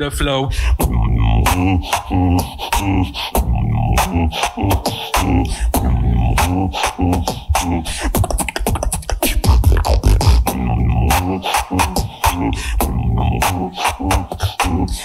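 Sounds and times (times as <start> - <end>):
person beatboxing: 0.5 - 15.0.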